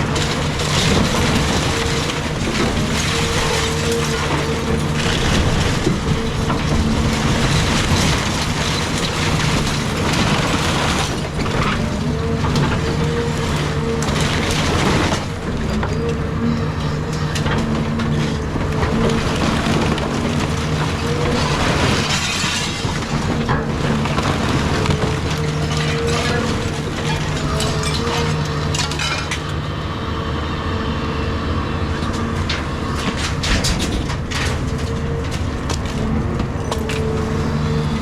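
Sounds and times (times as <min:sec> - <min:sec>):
wood cracking and crashing: 0:00.0 - 0:29.7, 0:31.9 - 0:38.0
excavator diesel engine running: 0:00.0 - 0:38.0.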